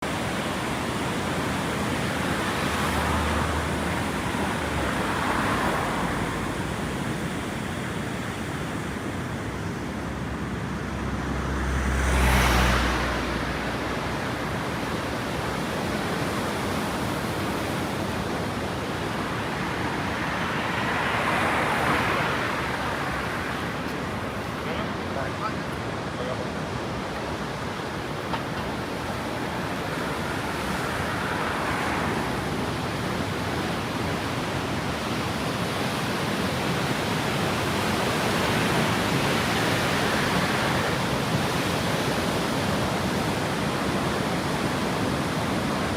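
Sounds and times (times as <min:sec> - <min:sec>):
vehicles passing: 0:00.0 - 0:45.9
waterfall rushing: 0:00.0 - 0:45.9.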